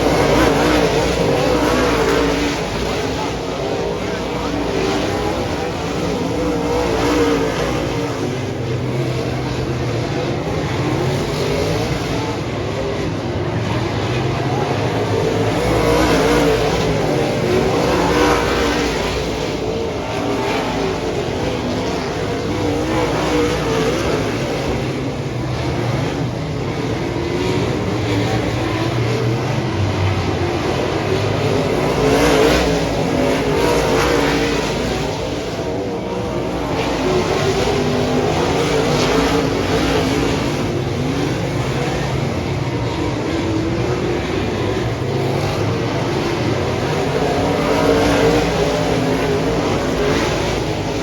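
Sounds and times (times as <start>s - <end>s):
race car engines revving: 0.0s - 51.0s.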